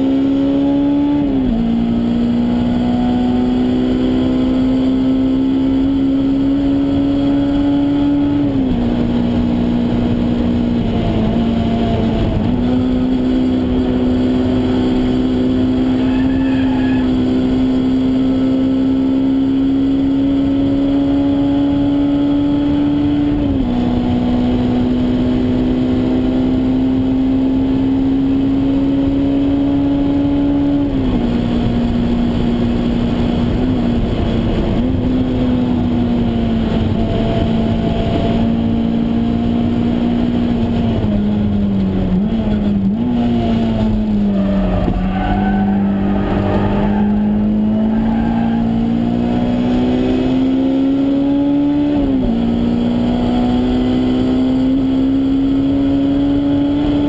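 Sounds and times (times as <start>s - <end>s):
car engine at high revs: 0.0s - 57.0s
road and wind noise: 0.0s - 57.0s.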